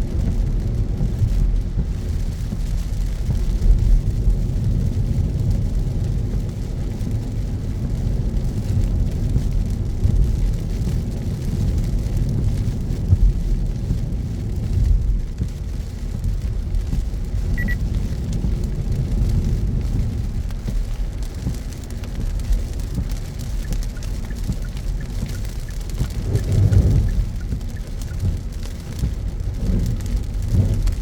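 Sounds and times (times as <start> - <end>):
car road and engine rumble: 0.0 - 31.0
rain and wet tyres hissing: 0.0 - 31.0.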